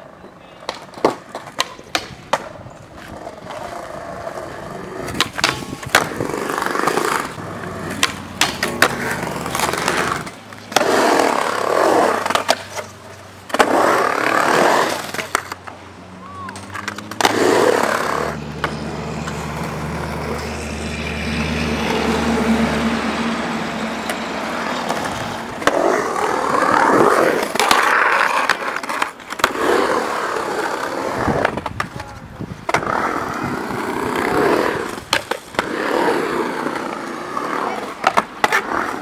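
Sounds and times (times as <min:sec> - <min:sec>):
skateboard wheels rolling on concrete: 0:00.0 - 0:39.0
skateboard clacks: 0:00.2 - 0:20.4, 0:24.0 - 0:39.0.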